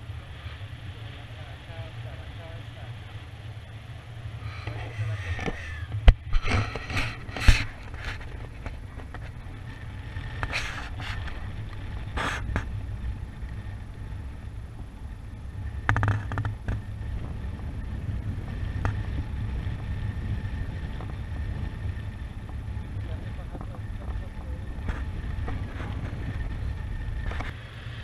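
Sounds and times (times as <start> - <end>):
wind buffeting microphone: 0.0 - 27.6
rustling gusts: 0.0 - 28.0.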